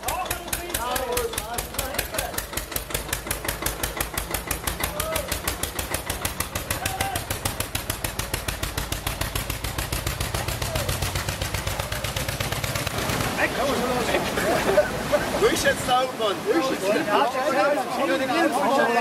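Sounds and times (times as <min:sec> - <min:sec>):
tractor diesel engine chugging: 0:00.0 - 0:15.6.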